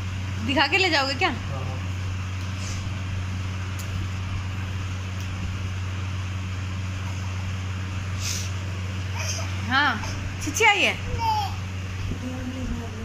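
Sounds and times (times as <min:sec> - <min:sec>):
electric fan hum: 0:00.0 - 0:13.0.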